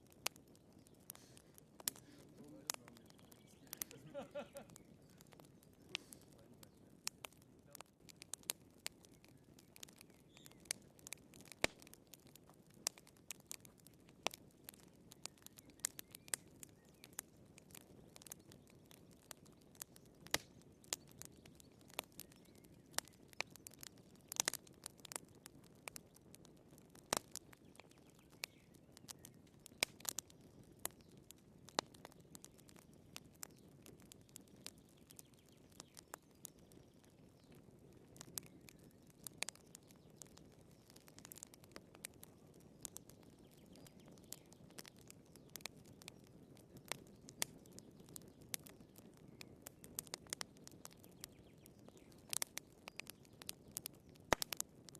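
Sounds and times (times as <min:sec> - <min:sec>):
firewood crackling: 0:00.0 - 0:54.9.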